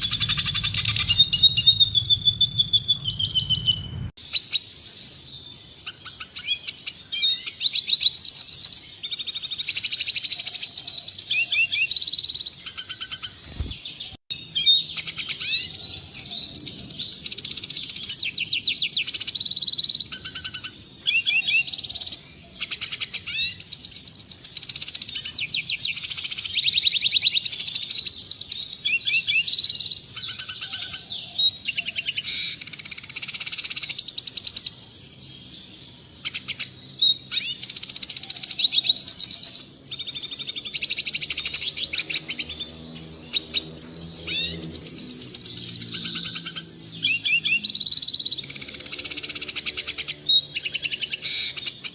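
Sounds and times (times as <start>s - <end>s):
bird twittering and trills: 0.0s - 51.9s.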